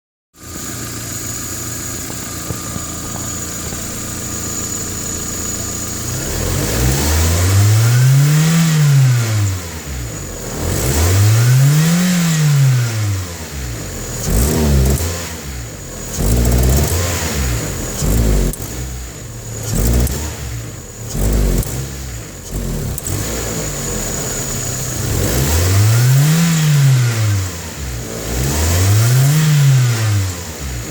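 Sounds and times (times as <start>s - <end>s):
car engine idling and revving: 0.4s - 30.9s.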